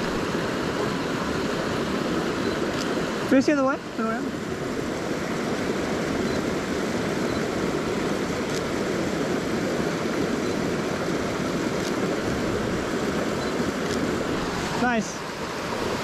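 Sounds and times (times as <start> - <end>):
creek cascading over boulders: 0.0 - 16.0.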